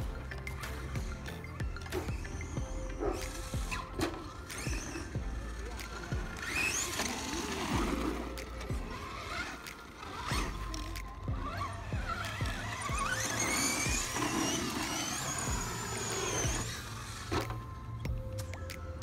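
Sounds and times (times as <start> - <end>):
toy truck electric motor whining: 0.0 - 18.5.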